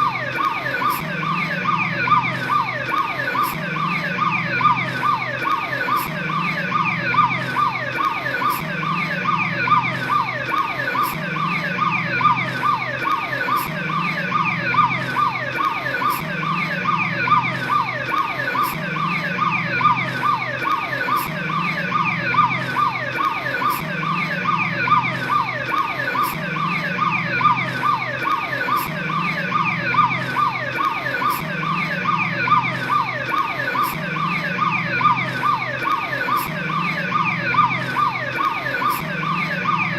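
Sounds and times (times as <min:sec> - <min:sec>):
police siren warbling: 0:00.0 - 0:39.9.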